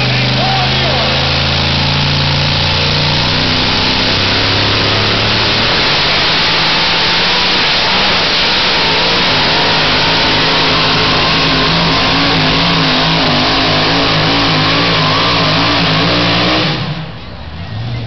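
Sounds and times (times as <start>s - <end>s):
truck engine at full throttle: 0.0s - 18.0s.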